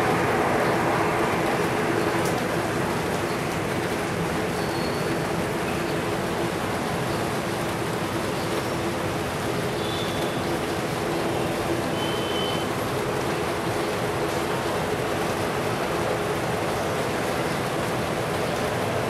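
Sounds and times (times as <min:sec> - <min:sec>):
rain rushing: 0:00.0 - 0:19.0.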